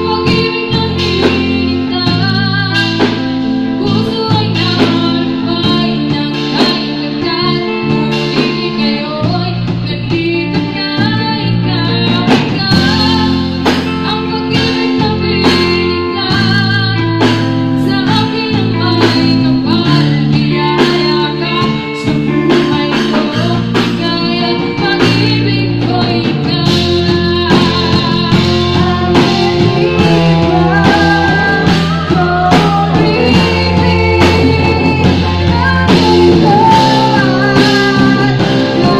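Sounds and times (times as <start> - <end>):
drum kit: 0.0 - 38.9
electric bass: 0.0 - 38.9
electric guitar: 0.0 - 38.9
woman singing: 0.0 - 38.9.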